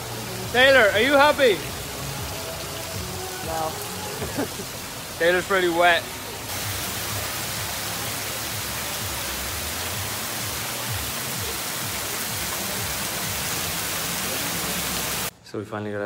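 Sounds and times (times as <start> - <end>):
heavy rain splashing on road: 0.0 - 15.3.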